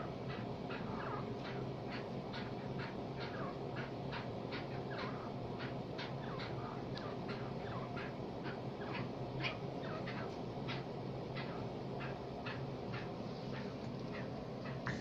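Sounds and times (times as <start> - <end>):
bird chip calls: 0.0 - 15.0
steady low hum: 0.0 - 15.0.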